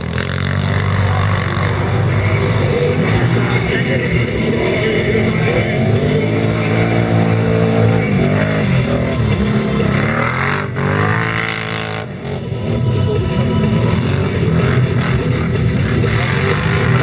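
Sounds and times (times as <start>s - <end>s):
quad bike engines revving: 0.0s - 17.0s.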